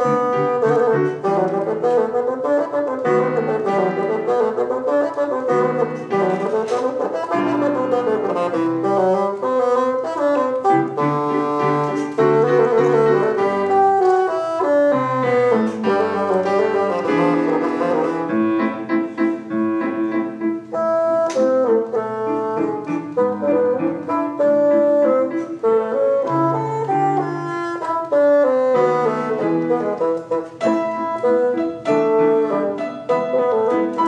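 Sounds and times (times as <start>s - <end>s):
bassoon: 0.0s - 34.0s
piano accompaniment: 0.0s - 34.0s.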